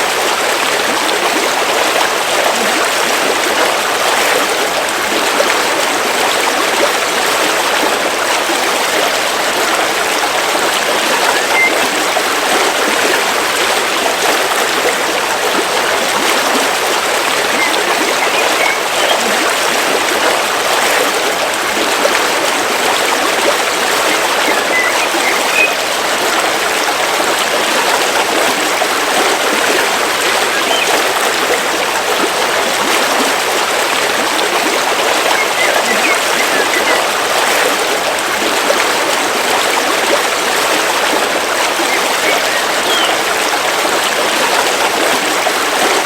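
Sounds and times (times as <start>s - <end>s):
river flowing over rocks: 0.0s - 46.0s.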